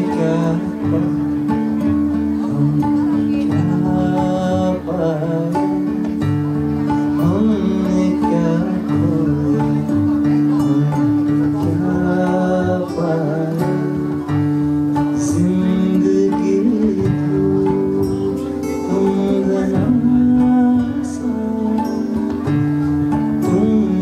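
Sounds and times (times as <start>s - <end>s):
plucked guitar: 0.0s - 24.0s.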